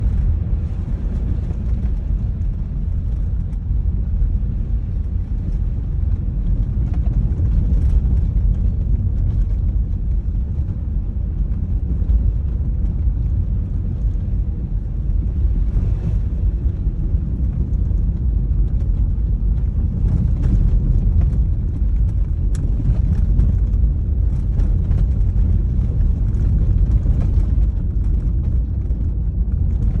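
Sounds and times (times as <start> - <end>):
car engine rumble: 0.0 - 30.0.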